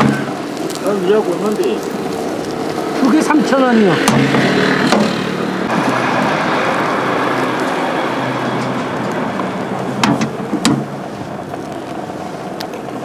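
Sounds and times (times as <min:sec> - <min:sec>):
street traffic noise: 0:00.0 - 0:13.0
vehicle engine running: 0:00.0 - 0:13.0.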